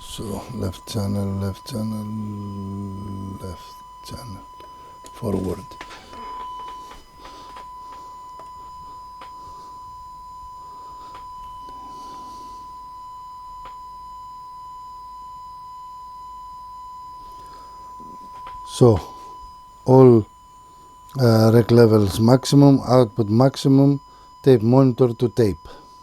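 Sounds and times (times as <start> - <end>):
sine test tone: 0.0 - 26.0.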